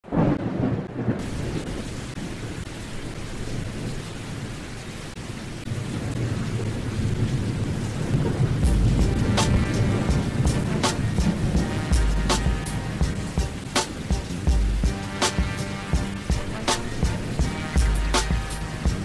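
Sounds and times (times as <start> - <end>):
thunder rumbling: 0.0 - 4.0, 5.7 - 19.0
rain hissing: 0.0 - 19.0.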